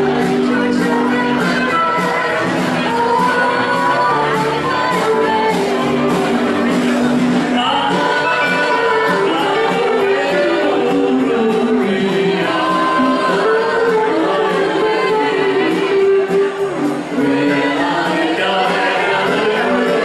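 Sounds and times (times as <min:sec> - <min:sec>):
woman singing: 0:00.0 - 0:06.3, 0:07.6 - 0:20.0
drums: 0:00.0 - 0:20.0
electric bass: 0:00.0 - 0:20.0.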